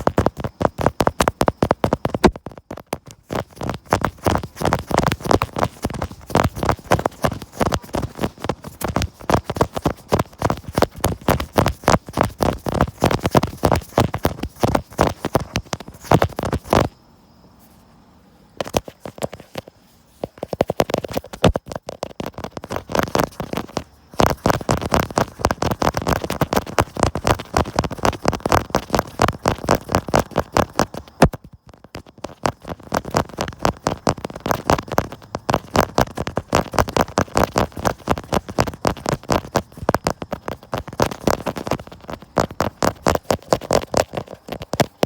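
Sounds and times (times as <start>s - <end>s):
fingers tapping on camera body: 0.0s - 16.9s, 18.6s - 45.0s.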